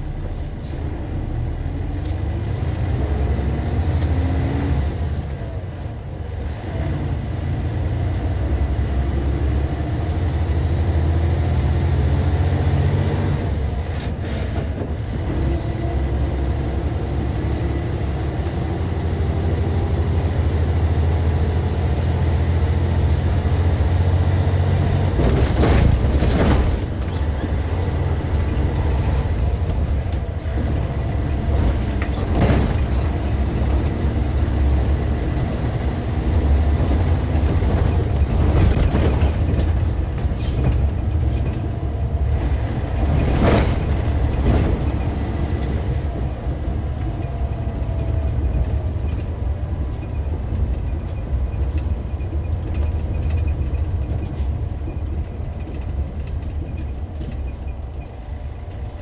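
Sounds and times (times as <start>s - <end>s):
diesel engine deep rumble: 0.0s - 59.0s.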